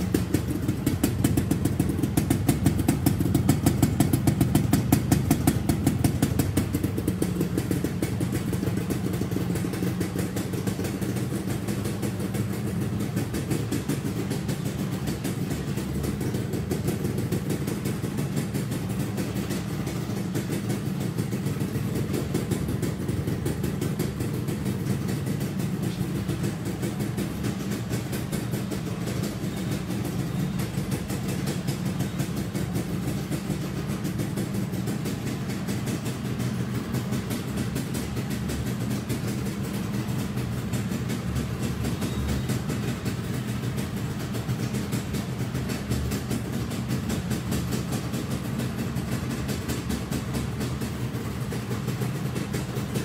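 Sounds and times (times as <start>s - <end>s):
motorcycle engine idling: 0.0s - 53.0s.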